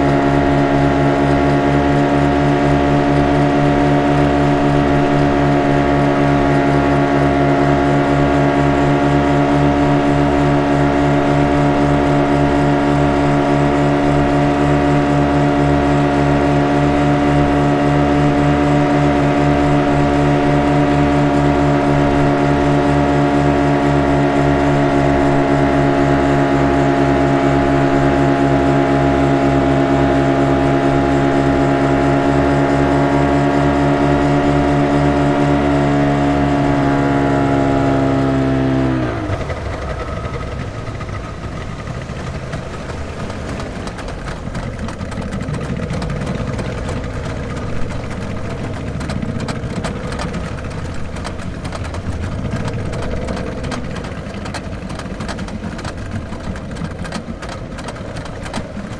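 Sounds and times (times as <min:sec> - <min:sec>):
motorboat engine droning: 0:00.0 - 0:58.9.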